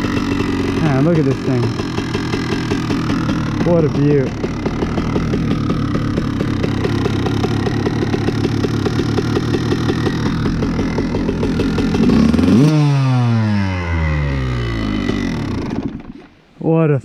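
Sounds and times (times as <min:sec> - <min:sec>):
two-stroke dirt bike engine: 0:00.0 - 0:16.5.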